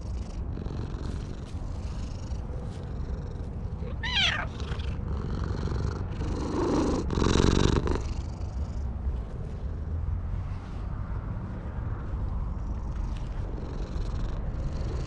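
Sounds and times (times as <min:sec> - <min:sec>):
cat purring: 0:00.0 - 0:10.0, 0:12.5 - 0:15.0.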